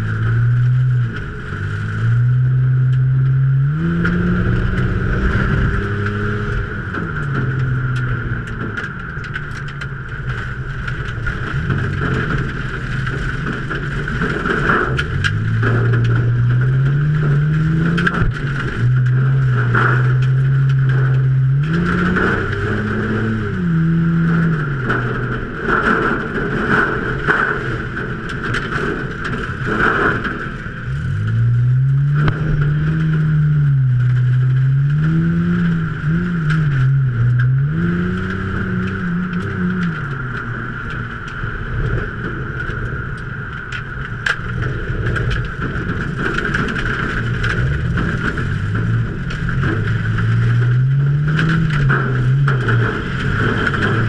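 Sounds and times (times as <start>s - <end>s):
race car engine revving: 0.0s - 54.0s
small rattles and clicks: 0.0s - 54.0s.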